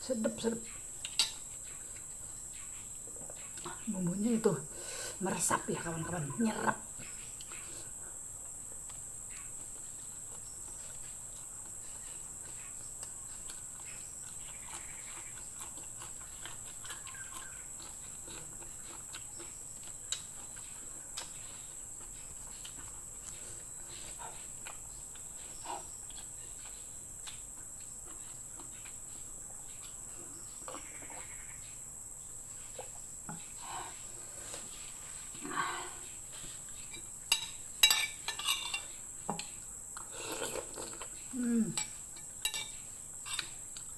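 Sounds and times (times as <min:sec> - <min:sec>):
chewing: 0:00.6 - 0:04.6, 0:05.2 - 0:43.9.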